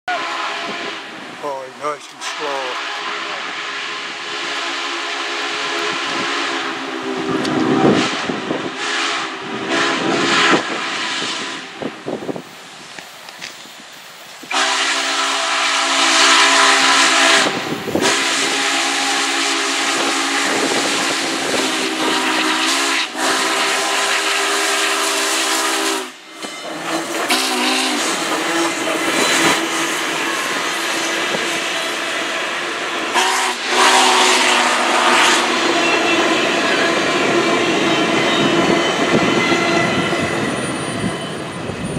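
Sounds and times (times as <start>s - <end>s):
steam whistle blasts: 0.1s - 1.6s, 2.2s - 11.9s, 14.4s - 41.4s
train rolling past: 0.1s - 41.9s
steam hissing: 1.0s - 39.4s.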